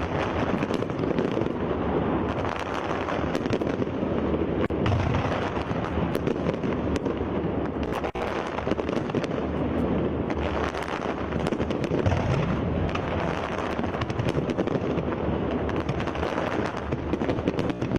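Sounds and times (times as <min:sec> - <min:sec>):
fireworks rumble and cracks: 0:00.0 - 0:17.9.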